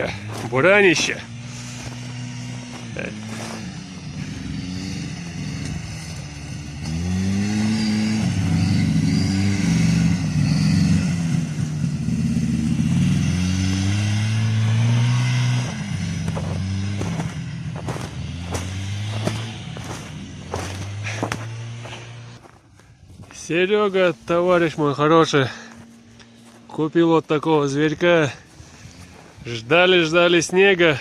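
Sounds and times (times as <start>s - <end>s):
snowmobile engine revving: 0.0s - 22.5s, 23.3s - 31.0s.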